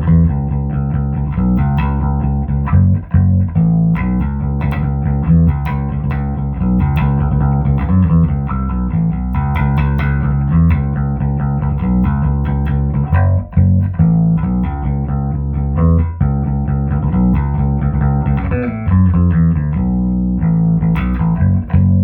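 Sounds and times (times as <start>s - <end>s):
plucked electric bass notes: 0.0s - 22.0s.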